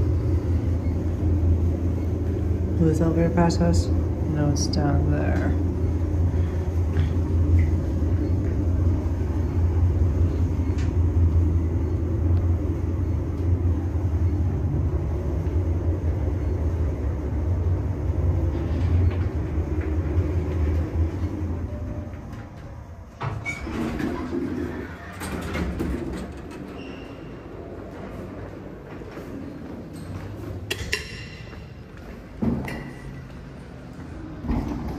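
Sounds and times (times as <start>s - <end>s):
elevator doors knocking and clattering: 0.0s - 34.9s
elevator low rumble: 0.0s - 34.9s.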